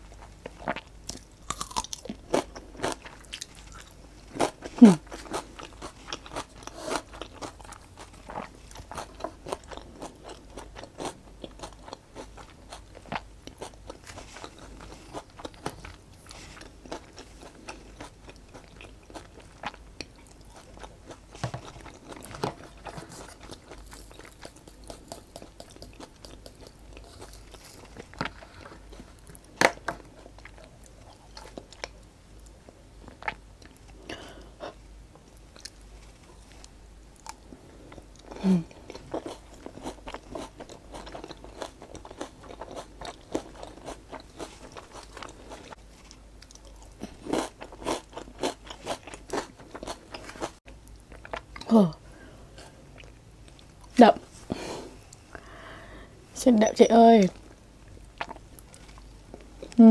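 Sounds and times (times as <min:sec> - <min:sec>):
chewing crunches: 0:00.1 - 0:32.0, 0:37.2 - 0:51.7, 0:57.4 - 0:59.8.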